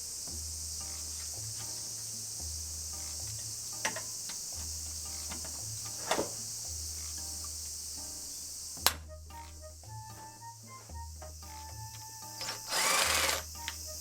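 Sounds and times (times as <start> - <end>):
insect chirring: 0.0 - 14.0
soft background music: 0.0 - 14.0.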